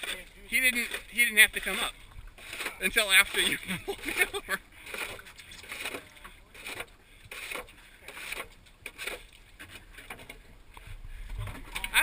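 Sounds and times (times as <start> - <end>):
waves splashing against a hull: 0.0 - 12.0.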